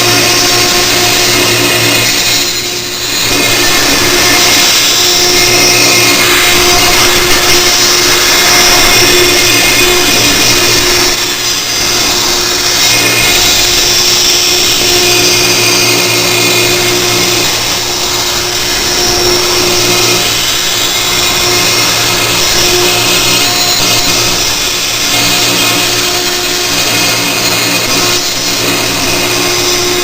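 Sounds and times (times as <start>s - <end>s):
humming tones: 0.0s - 30.0s
router spindle motor running: 0.0s - 30.0s.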